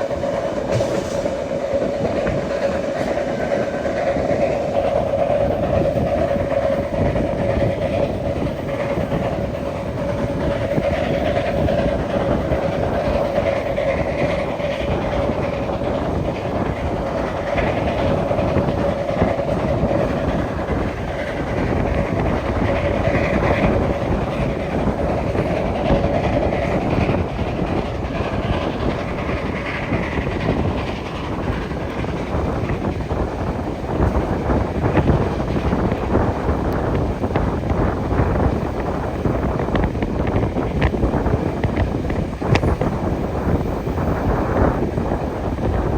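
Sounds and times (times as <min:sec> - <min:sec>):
train rolling rumble: 0:00.0 - 0:45.9
wheels clickety-clack: 0:00.0 - 0:45.9.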